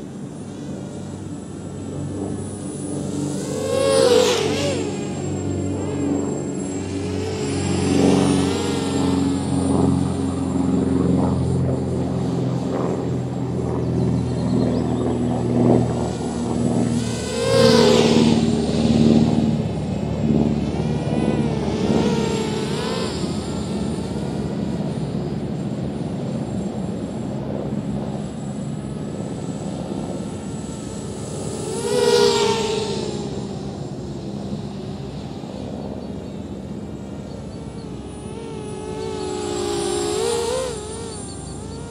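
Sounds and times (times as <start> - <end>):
quadcopter propellers buzzing: 0.0 - 41.9.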